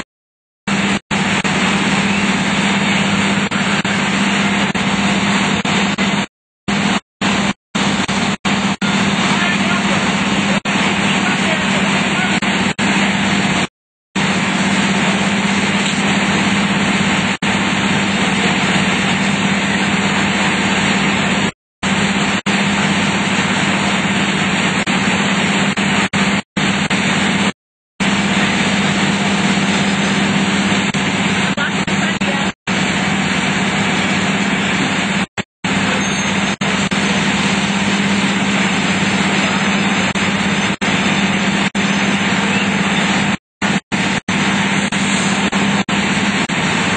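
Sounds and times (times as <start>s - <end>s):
diesel engines droning: 0.7s - 46.9s.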